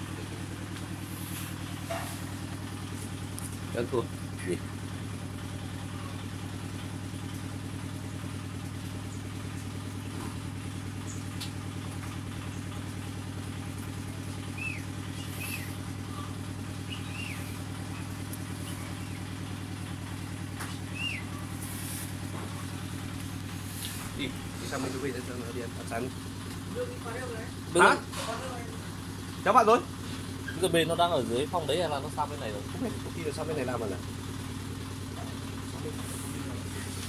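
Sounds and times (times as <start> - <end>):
small engine droning: 0.0 - 37.0.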